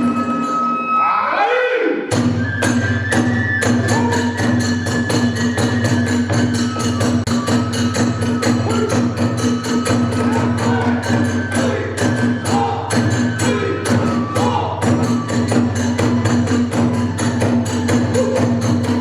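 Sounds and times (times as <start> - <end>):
bamboo flute high note: 2.1 - 9.2, 10.1 - 19.0
drums beating fast: 2.1 - 19.0.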